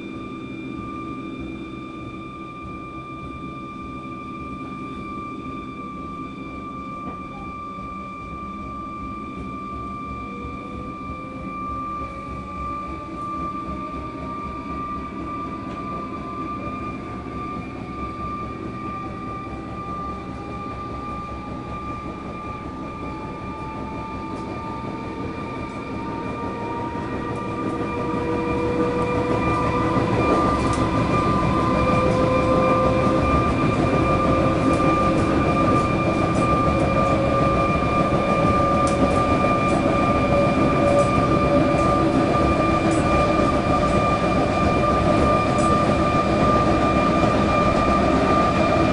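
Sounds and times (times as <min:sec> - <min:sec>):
traction motor whine: 0:00.0 - 0:48.9
train wheels and running noise: 0:00.0 - 0:48.9.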